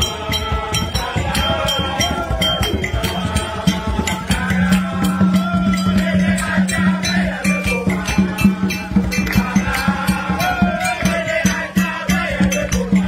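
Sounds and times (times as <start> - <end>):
hand-percussion beat: 0.0 - 13.0.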